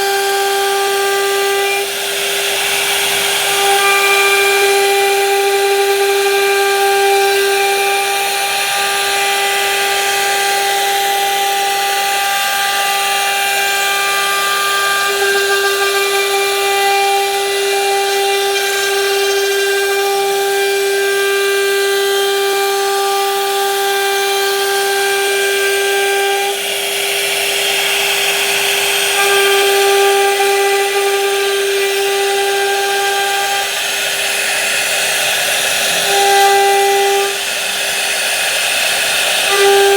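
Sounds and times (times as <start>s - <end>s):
power tool whining: 0.0s - 39.9s
steady hiss: 0.0s - 39.9s.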